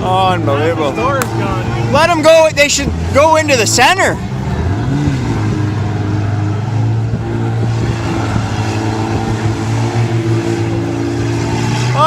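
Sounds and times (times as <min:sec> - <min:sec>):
car engines droning: 0:00.0 - 0:12.0.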